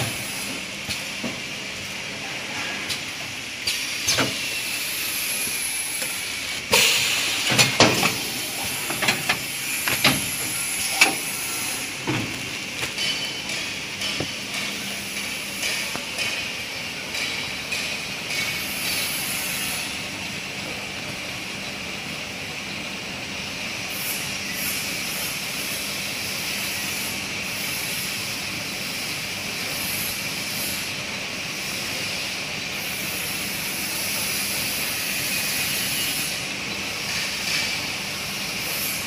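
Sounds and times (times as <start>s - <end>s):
factory machinery humming: 0.0s - 39.0s.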